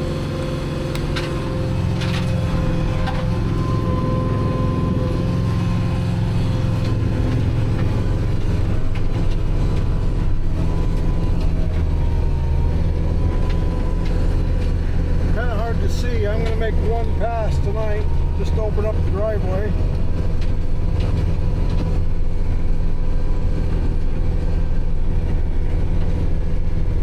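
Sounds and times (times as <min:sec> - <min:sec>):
thin steady whine: 0:00.0 - 0:26.8
tractor engine droning: 0:00.0 - 0:27.0.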